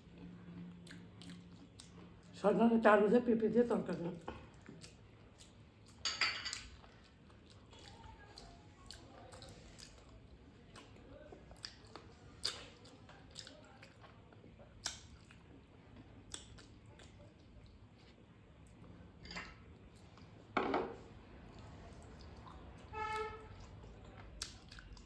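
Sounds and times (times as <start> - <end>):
person chewing food: 0.0 - 2.3, 4.2 - 19.0, 21.5 - 25.0.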